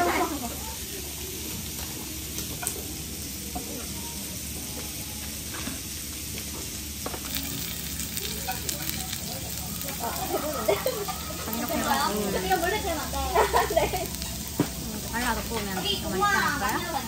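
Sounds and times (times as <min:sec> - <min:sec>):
food sizzling on a grill: 0:00.0 - 0:17.0.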